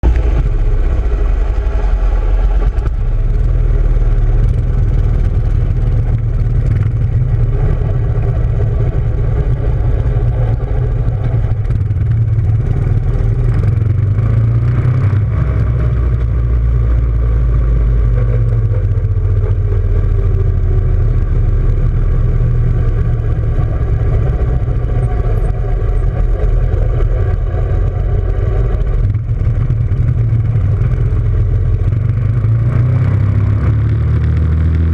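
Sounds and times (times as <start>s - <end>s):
motorcycle engine rumbling: 0.0s - 34.9s.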